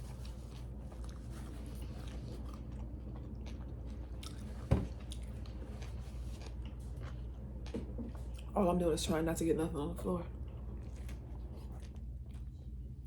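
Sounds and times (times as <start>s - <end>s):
low steady hum: 0.0s - 13.0s
wet chewing and mouth clicks: 0.1s - 8.5s, 10.4s - 12.8s.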